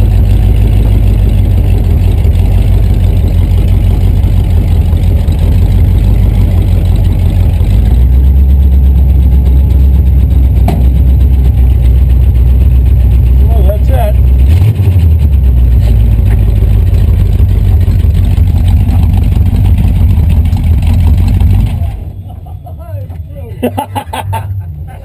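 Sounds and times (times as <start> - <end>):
engine rumbling at low speed: 0.0 - 25.0.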